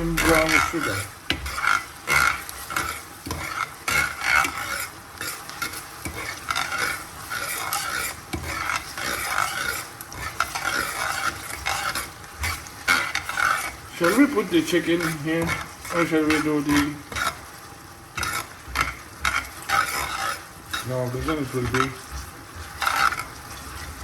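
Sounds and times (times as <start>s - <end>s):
onions sizzling in a frying pan: 0.0s - 24.0s
utensil scraping a pan: 0.0s - 24.0s.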